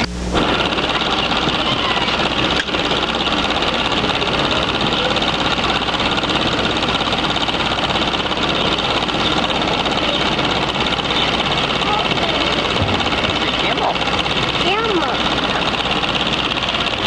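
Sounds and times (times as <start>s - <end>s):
mechanical rattling hum: 0.0s - 17.0s.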